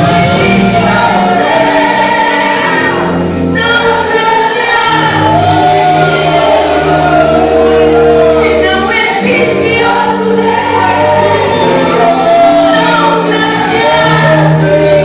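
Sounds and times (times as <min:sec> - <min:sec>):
gospel choir singing: 0:00.0 - 0:15.0
instrumental accompaniment: 0:00.0 - 0:15.0.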